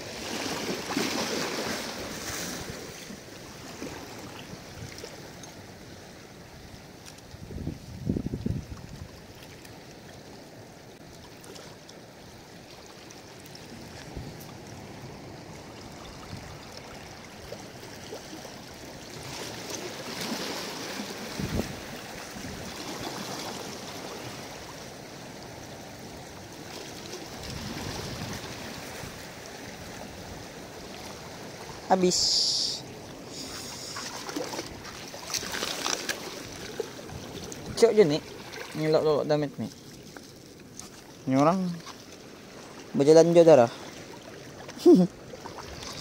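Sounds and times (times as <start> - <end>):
small waves lapping: 0.0 - 46.0.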